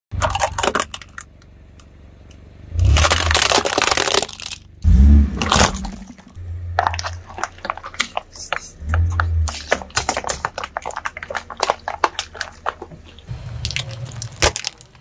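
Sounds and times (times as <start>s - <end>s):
plastic toy crunching under tyre: 0.1s - 1.4s, 2.7s - 15.0s.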